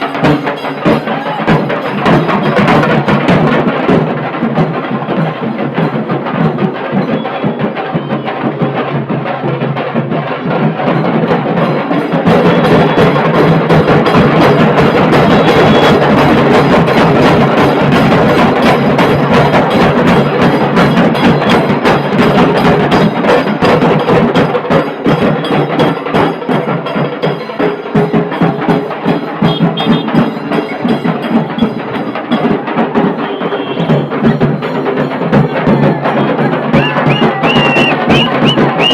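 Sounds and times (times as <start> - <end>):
deep dhol drum: 0.0 - 38.9
tasha drums fast rolls: 0.0 - 38.9.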